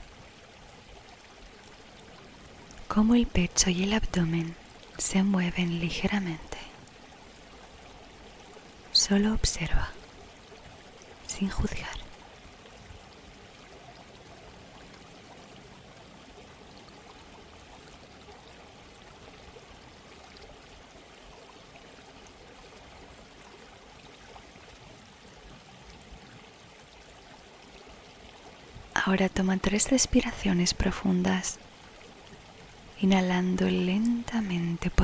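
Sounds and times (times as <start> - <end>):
stream flowing: 0.0 - 35.0.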